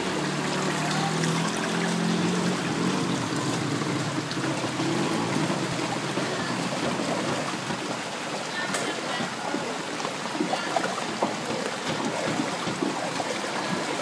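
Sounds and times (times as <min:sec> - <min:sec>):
floodwater sloshing and rushing: 0:00.0 - 0:14.0
rain falling on water: 0:00.0 - 0:14.0.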